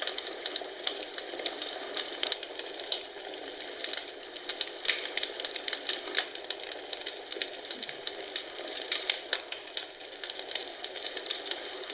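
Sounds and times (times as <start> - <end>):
wood fire crackling: 0.0 - 11.9.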